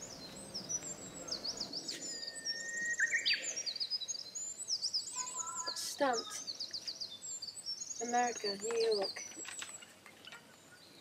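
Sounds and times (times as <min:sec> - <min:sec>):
bird trill: 0:00.0 - 0:11.0
small birds singing: 0:00.0 - 0:11.0.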